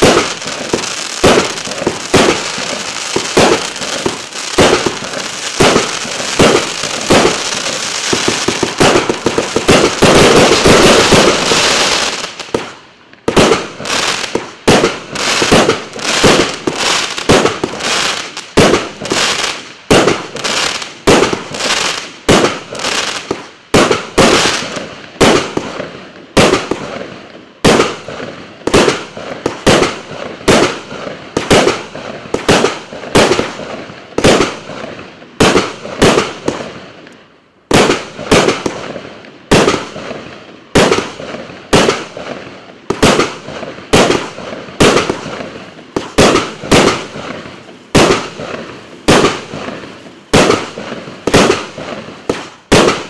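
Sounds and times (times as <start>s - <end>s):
firework cake shots: 0.0s - 27.0s, 27.6s - 53.0s.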